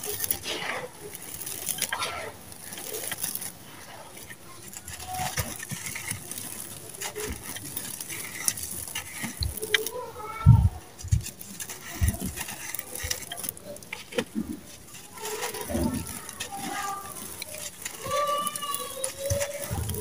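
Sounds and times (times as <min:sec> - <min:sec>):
cement lumps crumbling in hands: 0:00.0 - 0:20.0
grit pattering down: 0:00.0 - 0:20.0.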